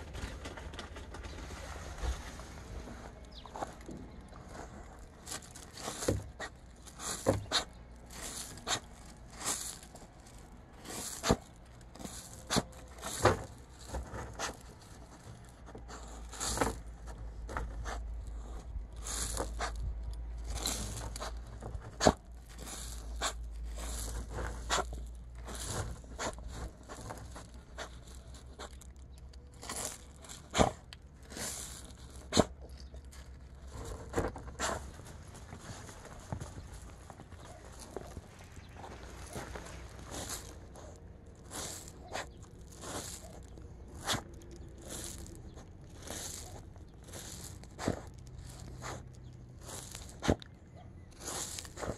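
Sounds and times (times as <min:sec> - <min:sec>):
dog digging in gravel: 0:00.0 - 0:51.9.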